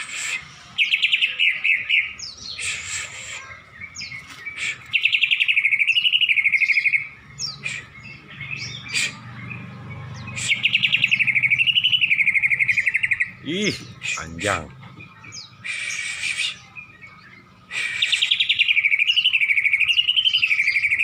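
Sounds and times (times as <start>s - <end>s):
bird chirps: 0.0s - 21.0s.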